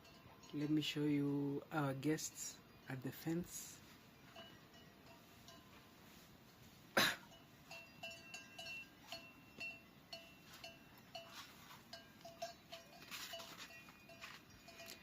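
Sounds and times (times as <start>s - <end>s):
livestock bells clinking: 0.0s - 6.4s, 7.2s - 15.0s.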